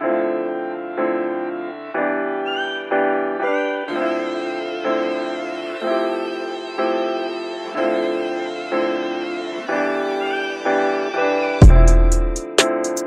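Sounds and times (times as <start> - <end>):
shimmering high music layer: 2.0 - 12.5.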